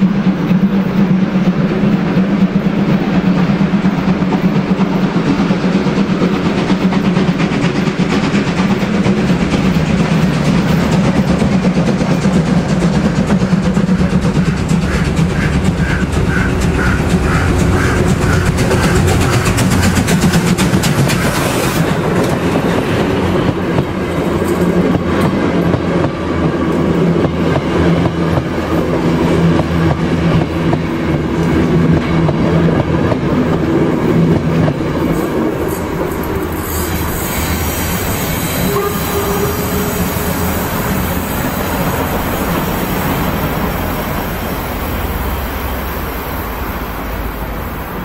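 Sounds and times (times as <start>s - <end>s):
steam locomotive exhaust: 0.0s - 48.0s
train wheels clickety-clack: 0.0s - 48.0s.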